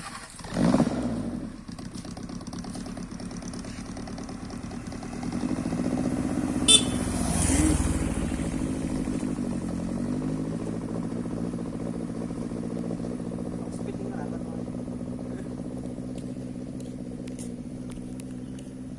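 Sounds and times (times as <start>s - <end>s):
car engine revving: 2.4s - 18.9s.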